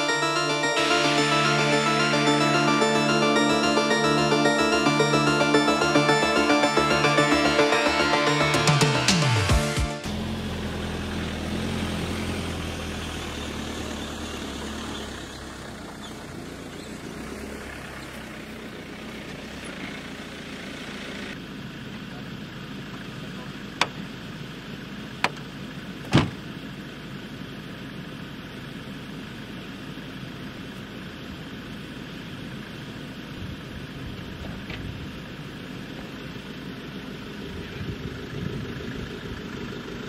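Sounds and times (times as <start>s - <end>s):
car engine humming: 0.0s - 40.0s.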